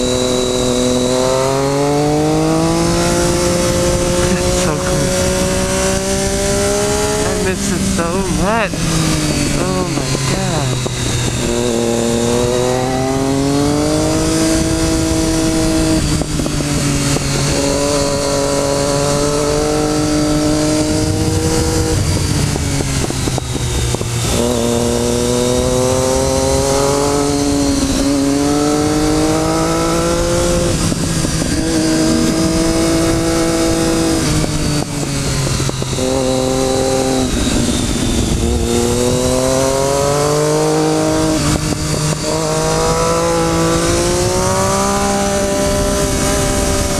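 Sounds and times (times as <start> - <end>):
motorcycle engine revving: 0.0 - 46.9
wind rush: 0.0 - 46.9.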